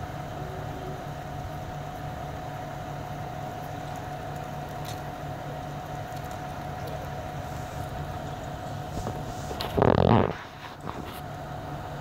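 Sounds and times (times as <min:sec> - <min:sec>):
crane engine droning: 0:00.0 - 0:12.0
steady high whine: 0:00.0 - 0:12.0.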